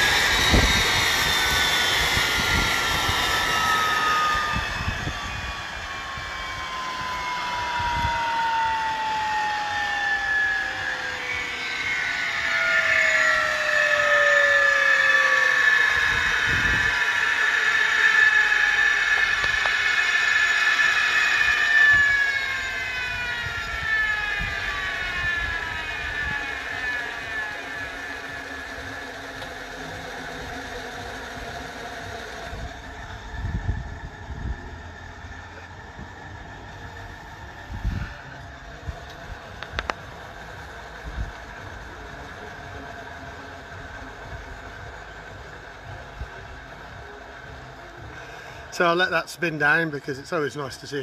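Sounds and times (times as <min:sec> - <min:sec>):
turbine engine whining: 0:00.0 - 0:51.0.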